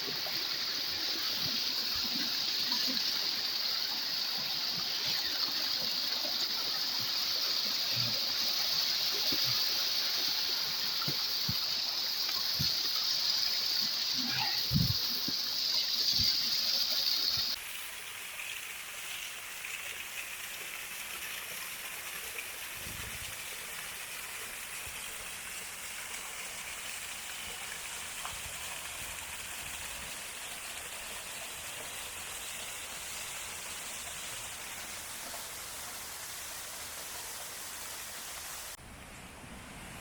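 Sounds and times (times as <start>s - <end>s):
rushing mountain water: 0.0s - 38.9s.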